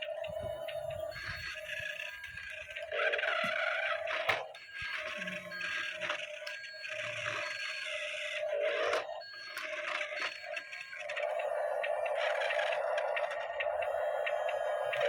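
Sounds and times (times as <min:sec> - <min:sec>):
toy electric motors whining: 0:00.0 - 0:15.0.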